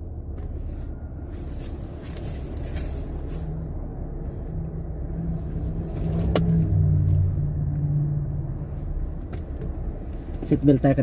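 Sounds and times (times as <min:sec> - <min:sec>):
engine hum inside car: 0:00.0 - 0:11.0.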